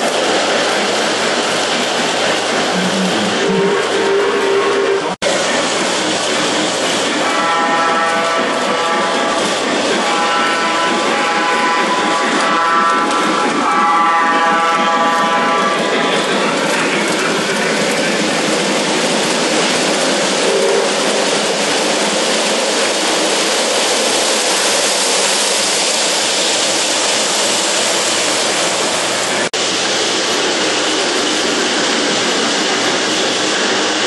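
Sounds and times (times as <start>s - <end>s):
model train rolling rumble: 0.0s - 34.0s.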